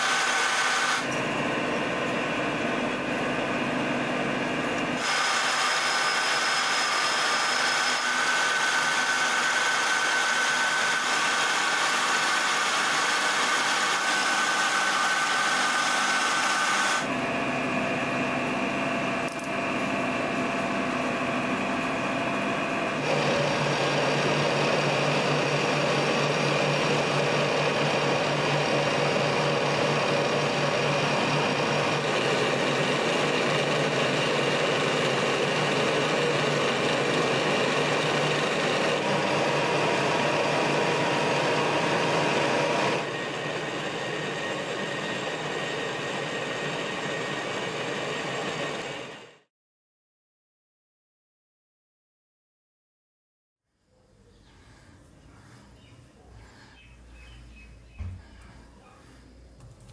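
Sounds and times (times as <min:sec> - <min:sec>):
milling machine motor humming: 0:00.0 - 0:49.4.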